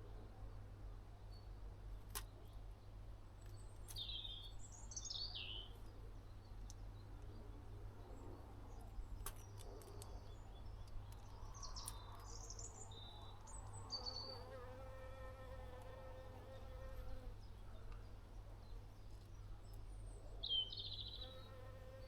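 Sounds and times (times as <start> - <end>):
small birds chirping: 1.2 - 22.0.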